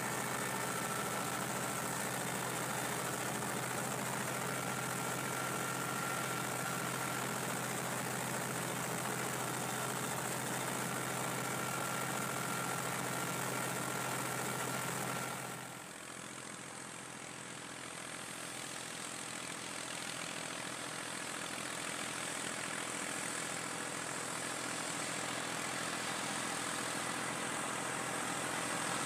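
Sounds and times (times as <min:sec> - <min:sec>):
tractor engine and mower running: 0:00.0 - 0:29.0.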